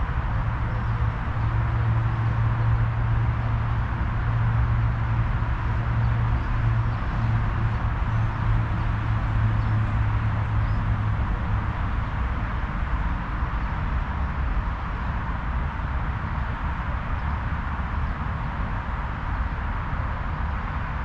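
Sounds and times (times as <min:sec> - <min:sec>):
constant low outdoor rumble: 0:00.0 - 0:21.0.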